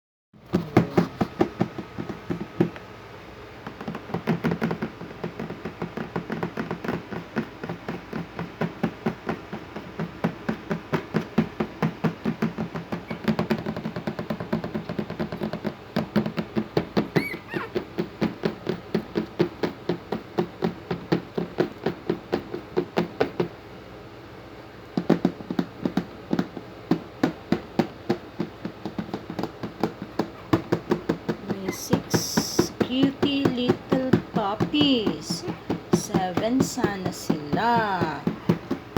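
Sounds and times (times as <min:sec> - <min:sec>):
rapid regular knocking: 0:00.4 - 0:23.6, 0:25.0 - 0:38.9.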